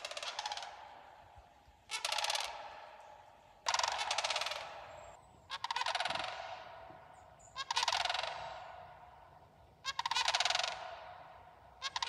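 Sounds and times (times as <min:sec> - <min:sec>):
cranes rattling calls: 0:00.0 - 0:01.1, 0:01.9 - 0:12.0.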